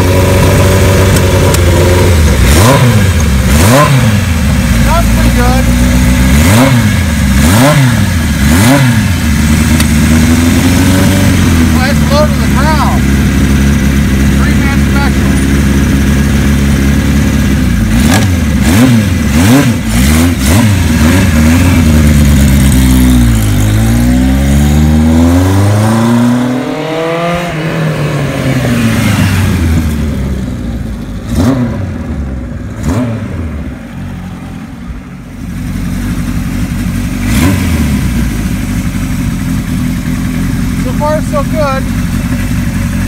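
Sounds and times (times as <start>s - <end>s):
motorcycle engine revving: 0.0s - 43.0s
motorcycle pulling away: 0.0s - 43.0s.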